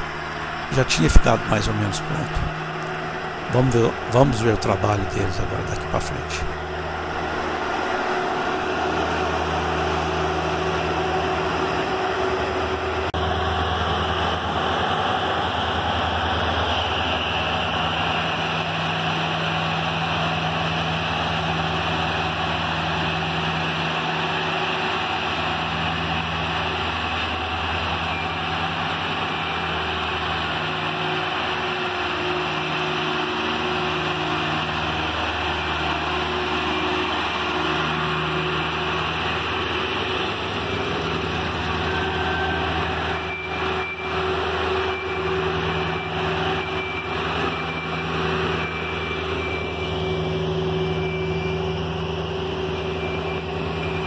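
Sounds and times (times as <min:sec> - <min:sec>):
road roller diesel engine: 0:00.0 - 0:54.0.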